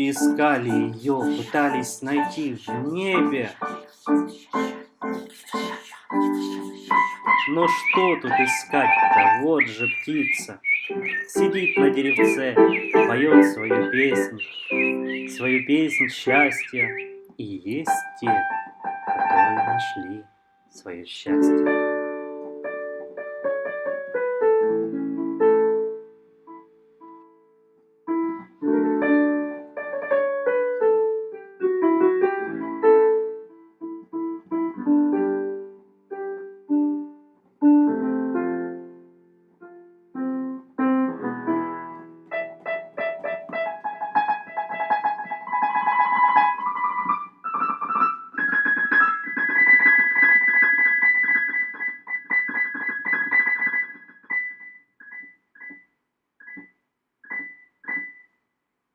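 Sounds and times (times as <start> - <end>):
solo piano music: 0.0 - 55.8, 56.4 - 58.3.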